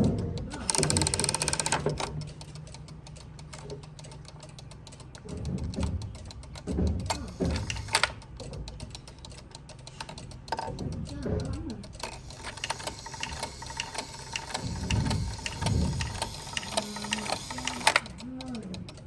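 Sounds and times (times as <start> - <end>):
clock mechanism clicking: 0.0 - 19.0.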